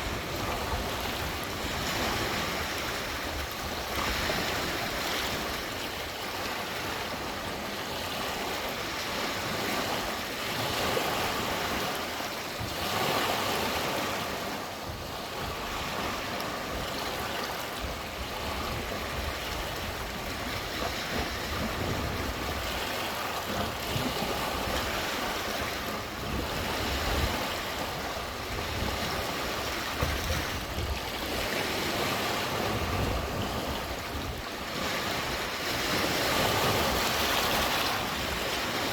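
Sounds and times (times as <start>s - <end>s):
lake water lapping against shore: 0.0s - 38.9s
wind rumble on microphone: 0.0s - 38.9s.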